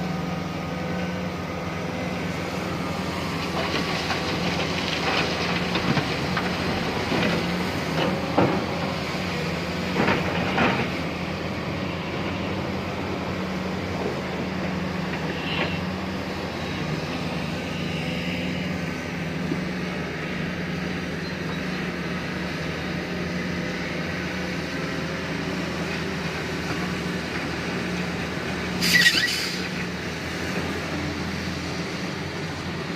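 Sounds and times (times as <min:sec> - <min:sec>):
excavator engine and hydraulics: 0:00.0 - 0:32.9.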